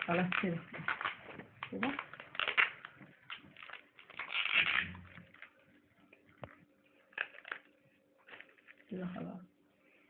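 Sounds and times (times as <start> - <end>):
plastic bag rustling: 0.0 - 5.7, 6.4 - 9.4.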